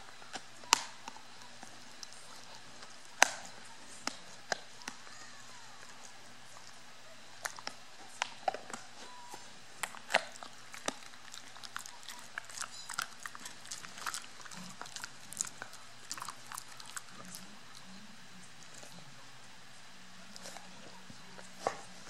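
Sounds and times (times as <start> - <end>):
dog gnawing a chew: 0.0 - 22.0.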